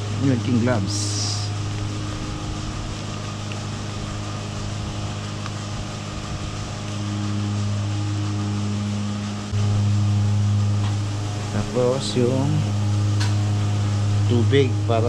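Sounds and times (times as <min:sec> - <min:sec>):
milking machinery humming: 0:00.0 - 0:15.0.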